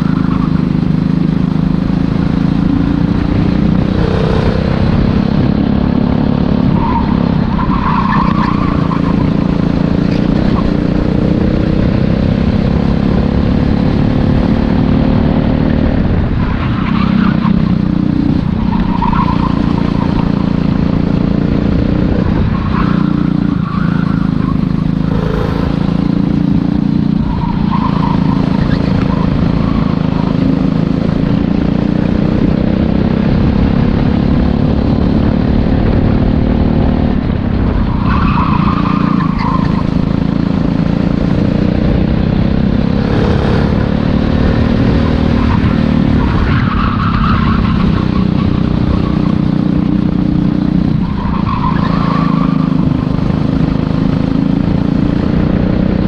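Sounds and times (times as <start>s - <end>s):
go-kart engine at high revs: 0.0s - 56.0s.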